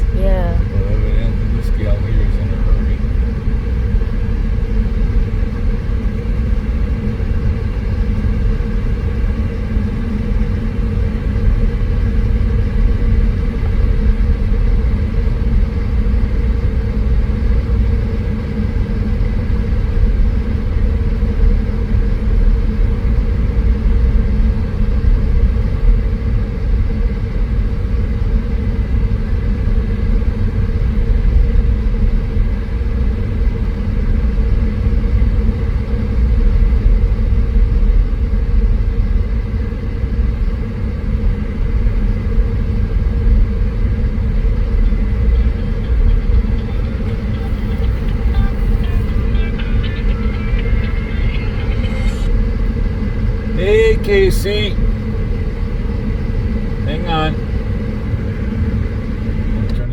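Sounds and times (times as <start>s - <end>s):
car on unpaved road: 0.7s - 59.9s.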